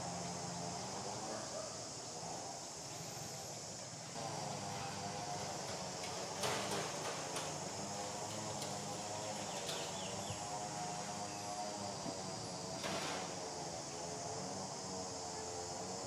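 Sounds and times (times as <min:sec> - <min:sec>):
high-pitched hiss: 0:00.0 - 0:16.0.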